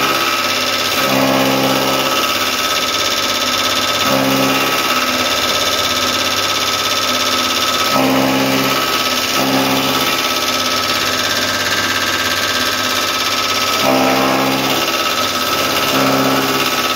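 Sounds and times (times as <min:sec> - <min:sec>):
chaff cutter mechanical whine: 0:00.0 - 0:16.9.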